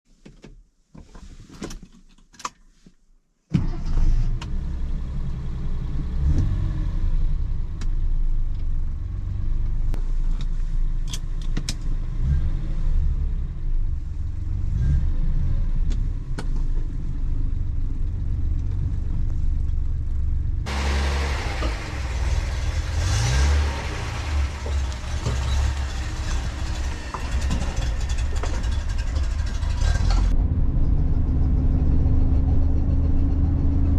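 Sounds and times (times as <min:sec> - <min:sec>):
car engine deep low rumble: 0:03.6 - 0:33.9.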